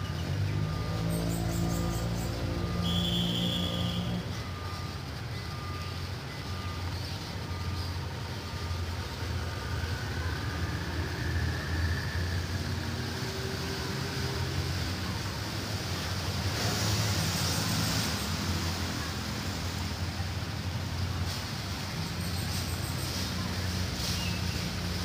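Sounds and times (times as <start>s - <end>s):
distant diesel train rumble: 0.0s - 25.0s.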